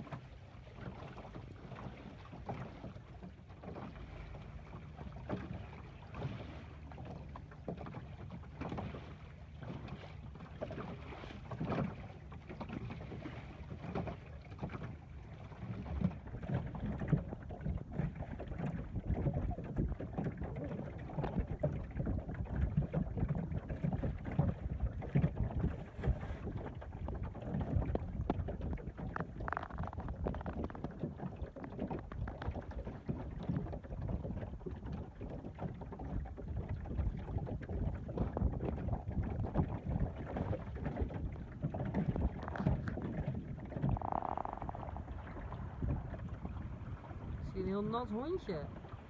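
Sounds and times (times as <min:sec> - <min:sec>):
water washing along hull: 0:00.0 - 0:49.0
wind rumbling on microphone: 0:00.0 - 0:49.0.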